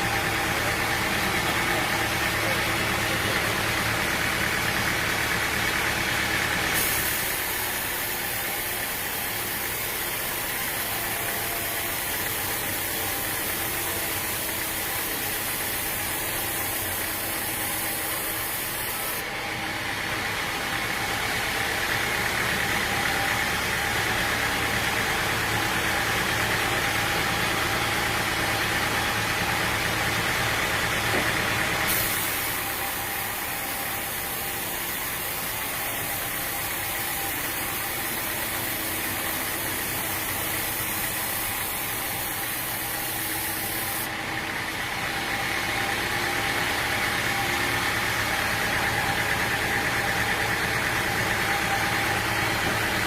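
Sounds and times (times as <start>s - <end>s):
engine-driven machinery running: 0.0s - 53.0s.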